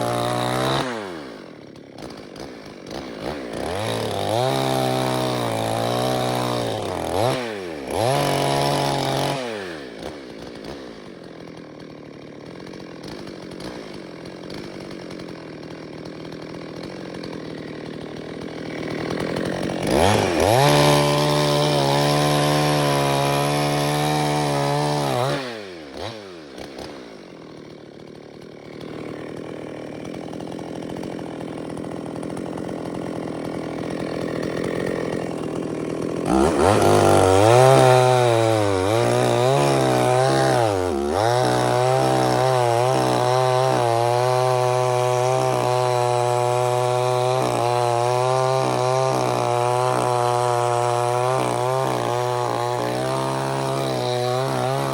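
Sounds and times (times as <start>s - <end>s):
chainsaw revving: 0.0s - 54.9s.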